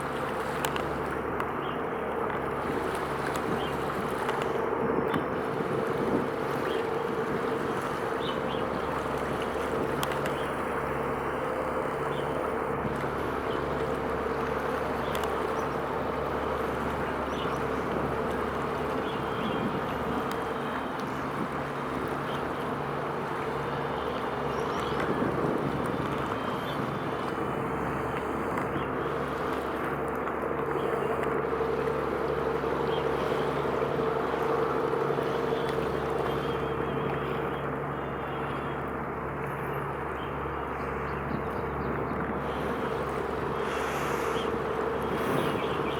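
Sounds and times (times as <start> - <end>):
engine drone: 0.0 - 45.9
water noise: 0.0 - 45.9
wind: 0.0 - 45.9.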